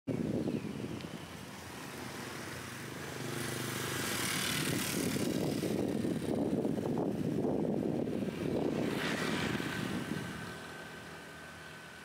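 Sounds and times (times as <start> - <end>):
hiss of passing vehicle: 1.1 - 12.0
vehicle engine approaching: 1.2 - 12.0.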